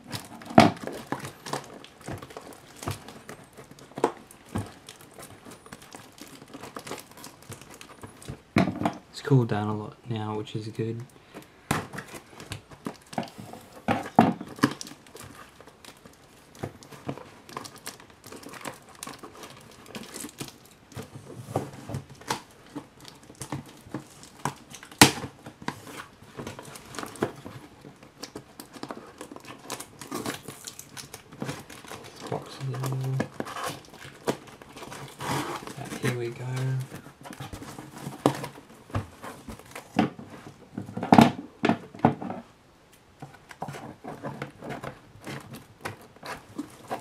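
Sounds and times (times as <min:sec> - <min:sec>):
cardboard crinkling and tearing: 0:00.0 - 0:09.4, 0:10.4 - 0:42.4, 0:43.1 - 0:47.0.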